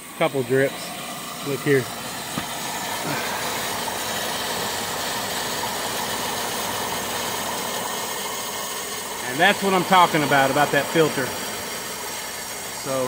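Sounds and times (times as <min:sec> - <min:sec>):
water pump running: 0:00.0 - 0:13.0.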